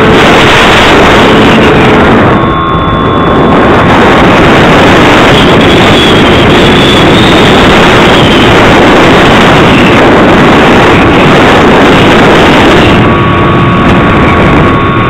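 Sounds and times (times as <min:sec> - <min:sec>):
faint thin whine: 0:00.0 - 0:15.0
wind buffeting microphone: 0:00.0 - 0:15.0.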